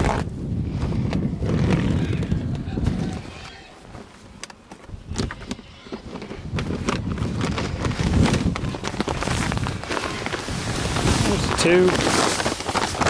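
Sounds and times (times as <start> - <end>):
feed bag rustling: 0.0 - 13.0.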